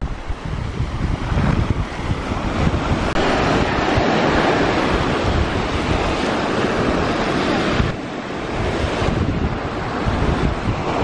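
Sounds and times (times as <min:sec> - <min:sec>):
small waves washing on sand: 0:00.0 - 0:11.0
wind buffeting microphone: 0:00.0 - 0:11.0.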